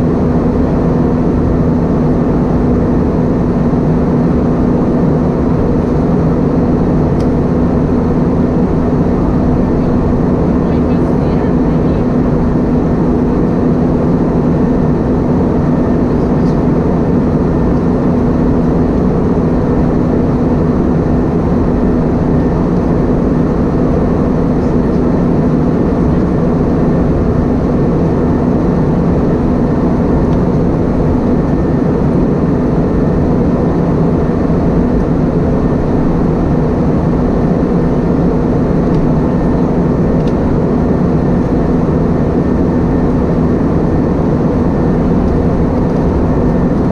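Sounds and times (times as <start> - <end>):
airplane cabin engine roar: 0.0 - 46.9.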